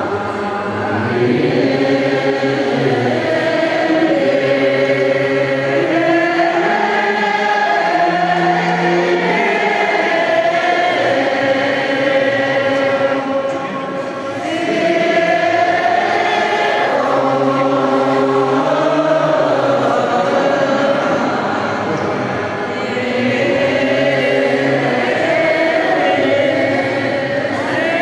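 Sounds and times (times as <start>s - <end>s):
crowd chanting in unison: 0.0s - 28.0s.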